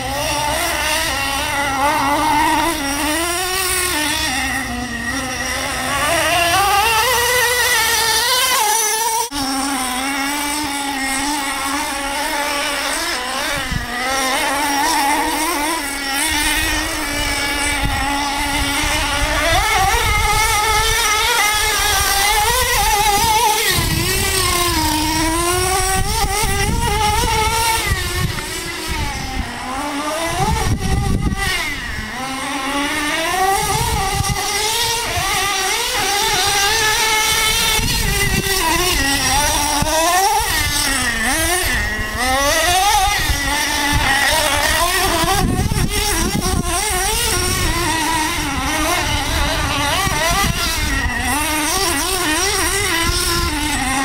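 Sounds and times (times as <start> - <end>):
nitro rc engine buzzing: 0.0 - 54.0.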